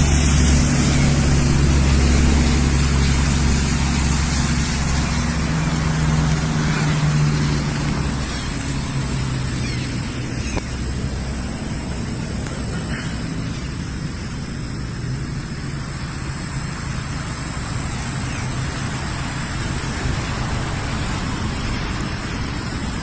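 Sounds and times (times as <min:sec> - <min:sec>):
road and wind noise: 0:00.0 - 0:23.0
vehicle engine running: 0:00.0 - 0:23.0.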